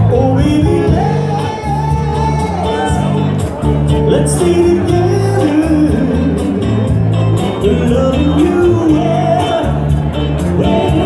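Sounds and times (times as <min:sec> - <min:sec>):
live dance band playing: 0:00.0 - 0:11.0
person singing: 0:00.0 - 0:11.0.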